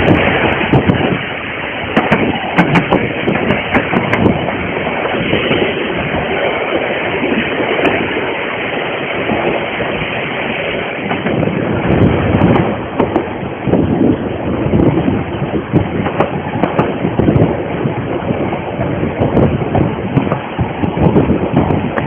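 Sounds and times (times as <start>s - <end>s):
steam train running: 0.0s - 22.0s
wind on microphone: 0.0s - 22.0s.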